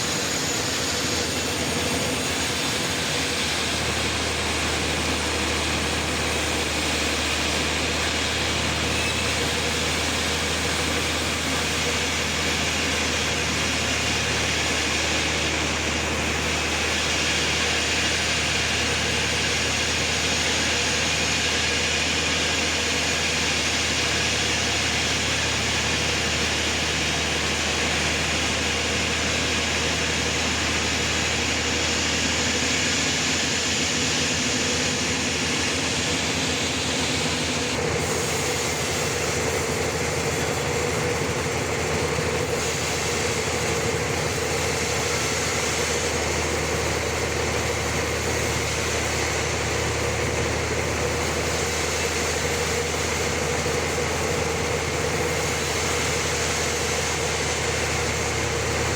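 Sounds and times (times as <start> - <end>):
sawmill machinery humming: 0.0 - 58.9.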